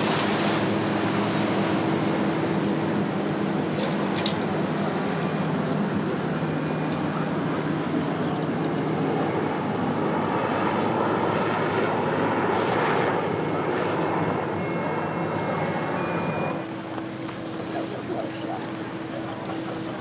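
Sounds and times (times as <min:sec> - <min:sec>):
engine drone: 0:00.0 - 0:20.0
wind: 0:00.0 - 0:20.0.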